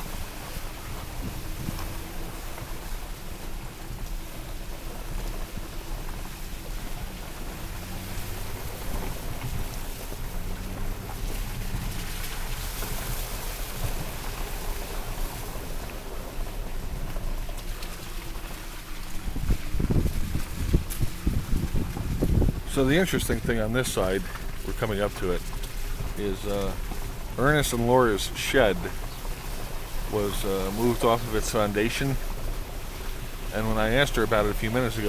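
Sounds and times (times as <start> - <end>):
tyres hissing on wet road: 0.0 - 35.0
vehicle engine hum: 0.0 - 35.0.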